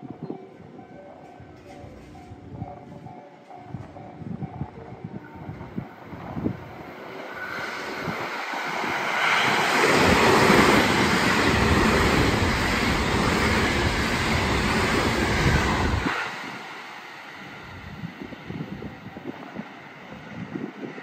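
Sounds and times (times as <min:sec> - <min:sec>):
electric train passing at speed: 0:00.0 - 0:21.0
train wheels running on rails: 0:00.0 - 0:21.0.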